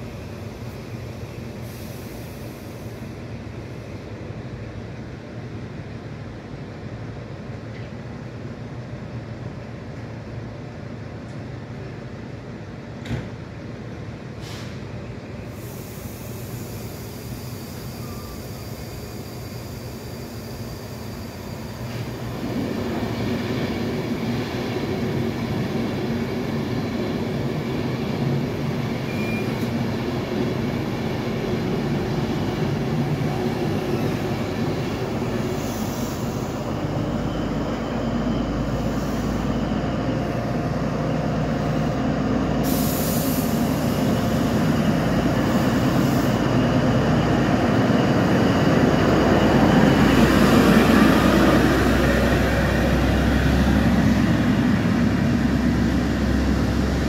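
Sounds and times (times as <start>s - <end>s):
diesel locomotive: 0.0s - 57.0s
train wheels rumbling on rail: 0.0s - 57.0s.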